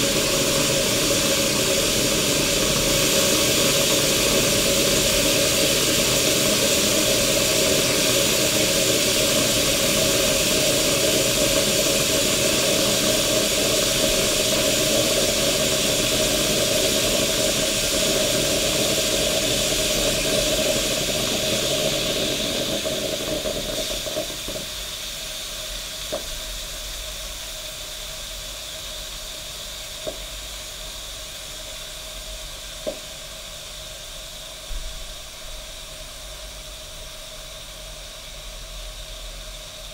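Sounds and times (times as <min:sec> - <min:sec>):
coffee machine hissing and steaming: 0:00.0 - 0:39.9.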